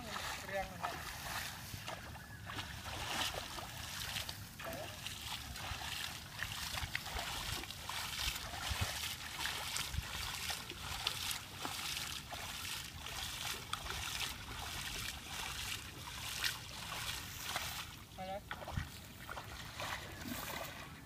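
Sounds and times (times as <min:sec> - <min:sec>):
feet splashing through muddy water: 0:00.0 - 0:21.0.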